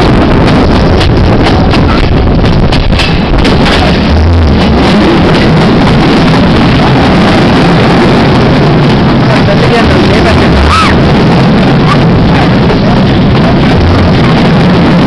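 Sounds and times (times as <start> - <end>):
moving train rumble: 0.0 - 15.0
wind on microphone: 0.0 - 15.0.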